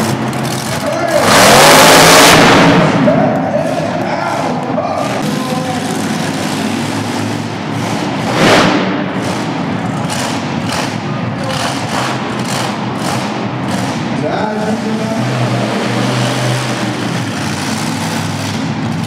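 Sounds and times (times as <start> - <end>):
engine noise: 0.0 - 19.0.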